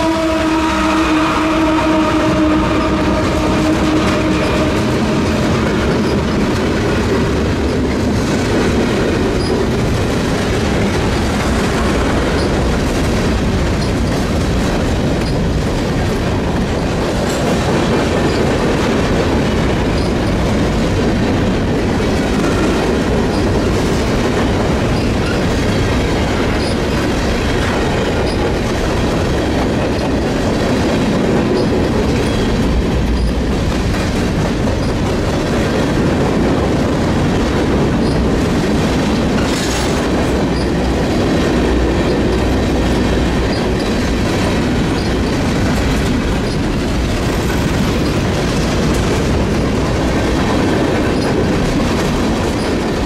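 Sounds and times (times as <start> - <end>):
train wheels clicking on rails: 0.0 - 53.0.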